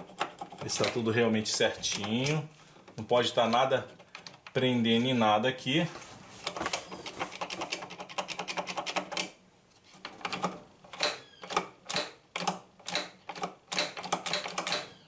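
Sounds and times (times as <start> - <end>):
washing machine parts clicking: 0.0 - 4.6, 6.4 - 9.4, 10.0 - 15.0.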